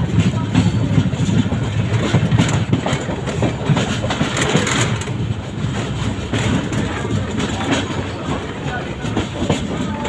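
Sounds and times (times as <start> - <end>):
train rumbling on rails: 0.0 - 10.0
train wheel clacks: 0.0 - 10.0.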